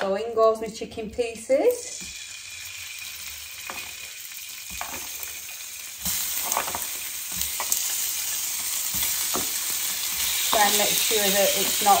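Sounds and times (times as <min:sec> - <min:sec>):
chicken sizzling in a frying pan: 0:01.6 - 0:12.0.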